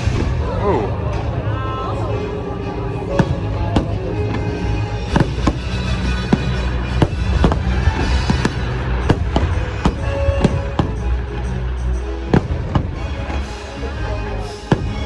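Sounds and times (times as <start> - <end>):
orchestral show music: 0.0 - 15.0.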